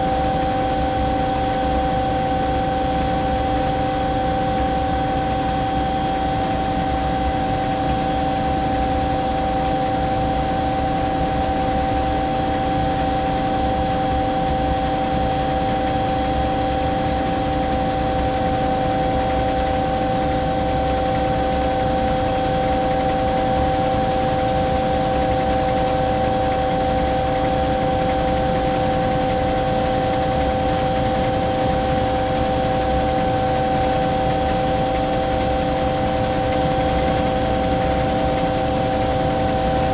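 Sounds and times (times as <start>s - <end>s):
helicopter cabin drone: 0.0s - 39.9s.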